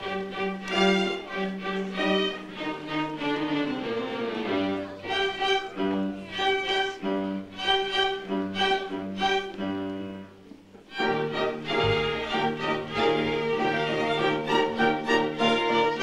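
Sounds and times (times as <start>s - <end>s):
violin and cello slow melody: 0.0s - 16.0s.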